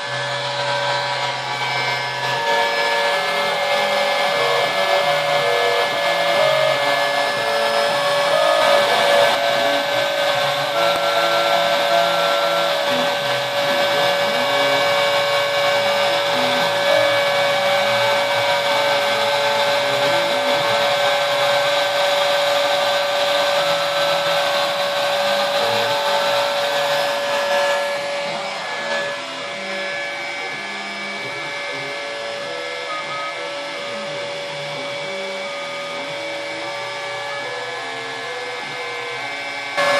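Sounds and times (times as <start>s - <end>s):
router spindle high whine: 0.0s - 39.9s
stepper motors humming: 0.0s - 39.9s.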